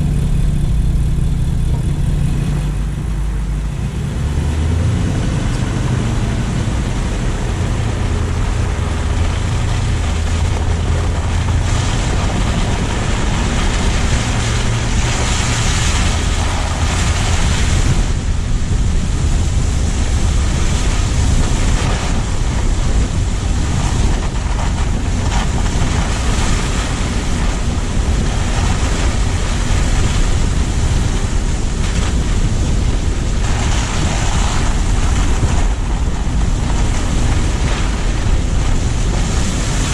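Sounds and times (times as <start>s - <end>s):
road rumble: 0.0s - 39.9s
wind on microphone: 0.0s - 39.9s.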